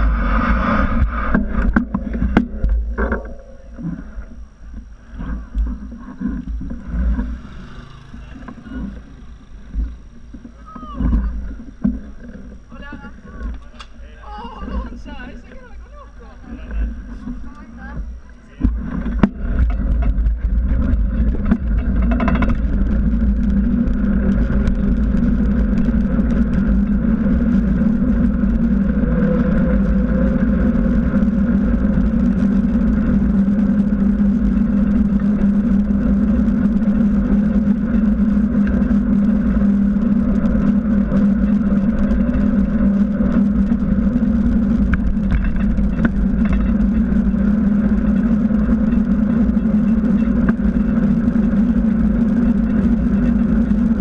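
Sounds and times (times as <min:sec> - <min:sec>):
steady hum: 0:00.0 - 0:54.0
wind and road rumble: 0:00.0 - 0:54.0.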